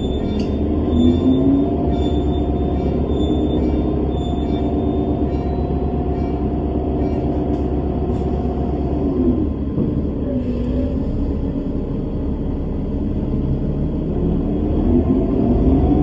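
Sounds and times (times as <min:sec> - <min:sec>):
bus engine rumble: 0:00.0 - 0:16.0
drivetrain whine: 0:00.0 - 0:16.0.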